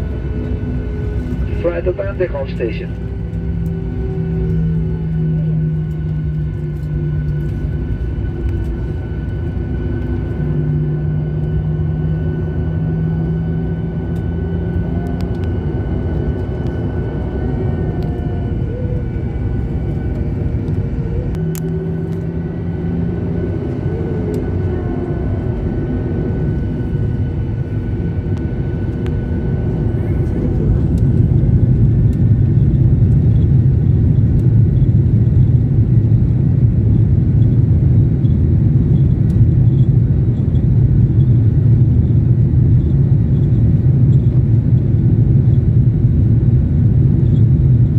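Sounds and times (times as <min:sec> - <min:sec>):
high engine whine: 0:00.0 - 0:47.9
jet engine rumble in cabin: 0:00.0 - 0:47.9.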